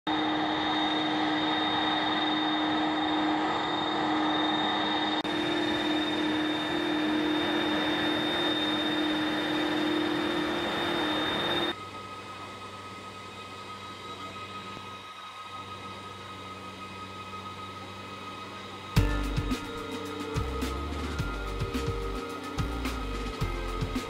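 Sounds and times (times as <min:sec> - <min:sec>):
jet engines whining: 0:00.1 - 0:24.0.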